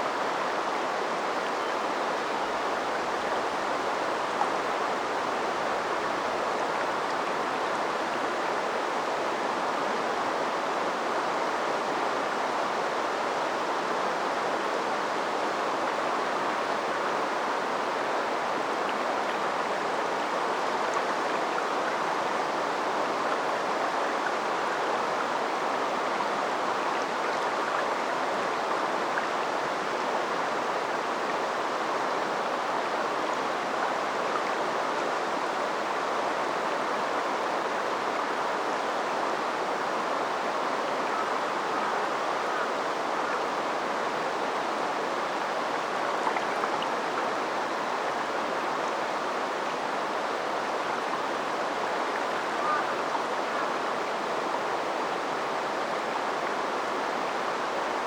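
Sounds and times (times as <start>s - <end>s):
water rushing and babbling: 0.0s - 58.0s.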